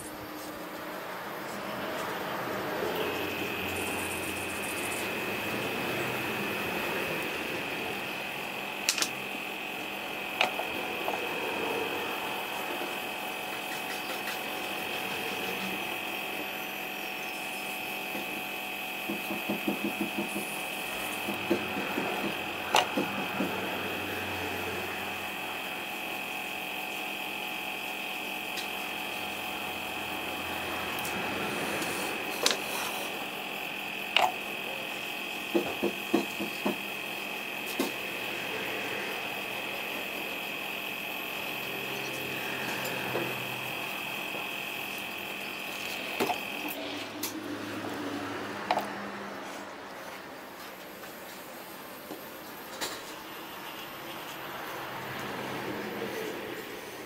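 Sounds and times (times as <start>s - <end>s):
airbrush whining and humming: 0.0s - 57.0s.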